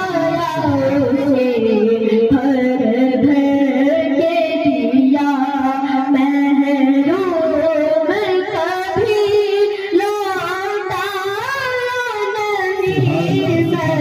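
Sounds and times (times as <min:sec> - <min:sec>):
young man singing into microphone: 0:00.0 - 0:14.0.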